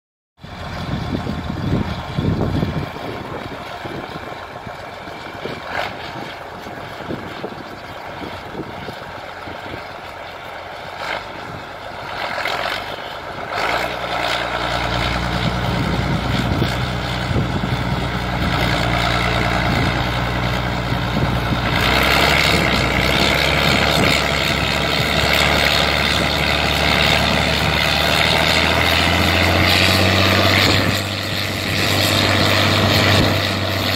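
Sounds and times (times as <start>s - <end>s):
heavy diesel engine running: 0.4s - 33.9s
uneven rumble: 0.4s - 33.9s.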